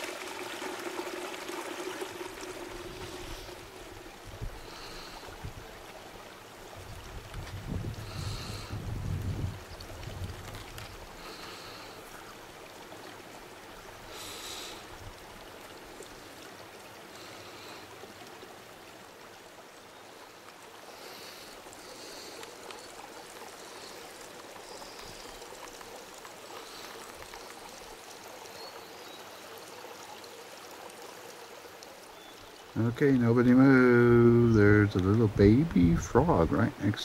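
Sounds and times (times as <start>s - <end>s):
mountain stream running: 0.0s - 37.0s.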